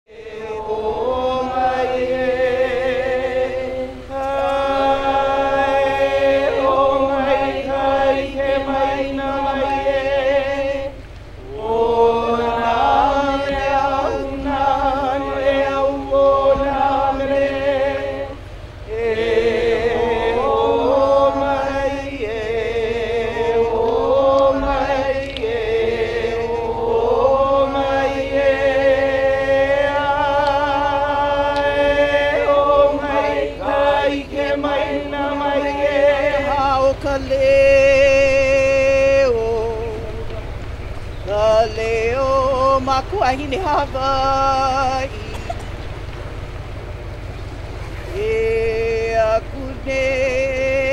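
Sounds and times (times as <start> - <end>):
person chanting long held notes: 0.1 - 45.8, 47.9 - 50.9.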